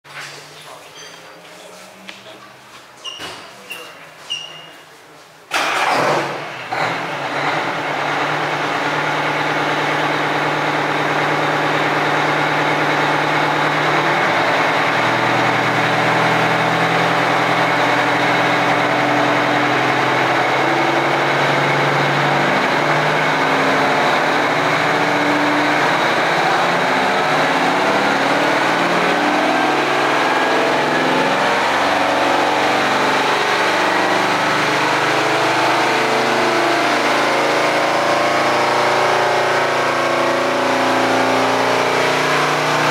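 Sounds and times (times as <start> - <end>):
diesel engine starting and running: 5.5 - 42.9.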